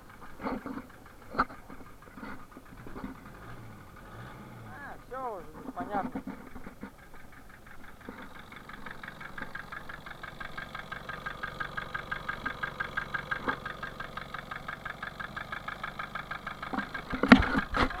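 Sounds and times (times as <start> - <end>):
car engine idling: 0.0 - 18.0
rapid metallic engine knock: 0.0 - 18.0.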